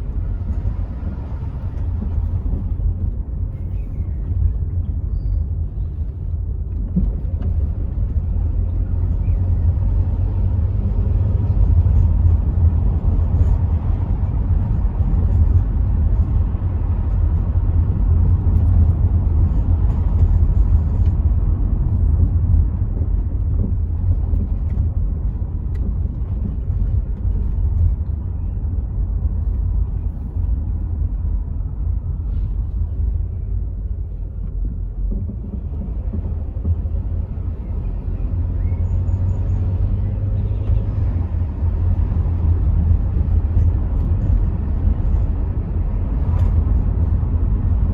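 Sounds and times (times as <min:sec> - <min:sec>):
car engine rumble: 0:00.0 - 0:47.9
road noise: 0:00.0 - 0:47.9
wind noise from open windows: 0:00.0 - 0:47.9.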